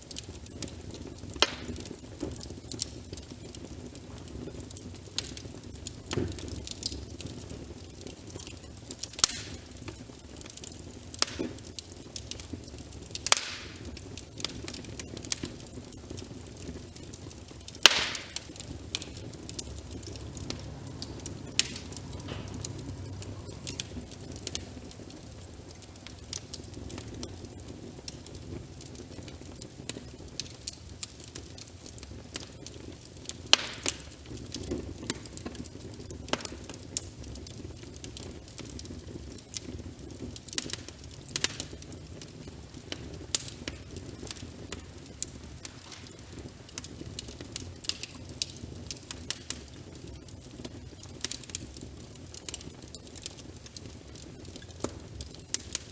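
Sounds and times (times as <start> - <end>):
rain hissing on a window: 0.0 - 55.9
wood fire crackling: 0.0 - 55.9.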